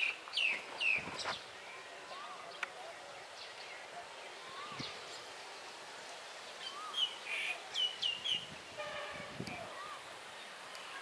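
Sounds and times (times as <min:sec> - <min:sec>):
birds chirping: 0:00.0 - 0:11.0
outdoor background hiss: 0:00.0 - 0:11.0.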